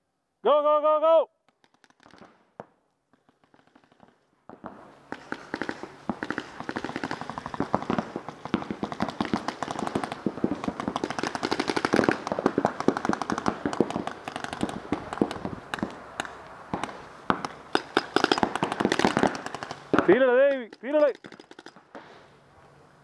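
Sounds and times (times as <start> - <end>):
paintball markers firing: 1.4 - 22.1.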